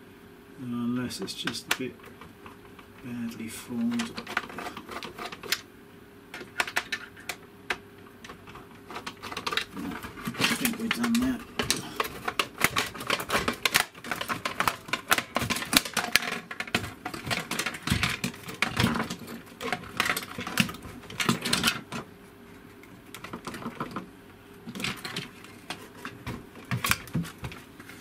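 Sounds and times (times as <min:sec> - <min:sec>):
plastic parts clicking and rattling: 0:01.4 - 0:05.6, 0:06.3 - 0:22.1, 0:22.7 - 0:27.7.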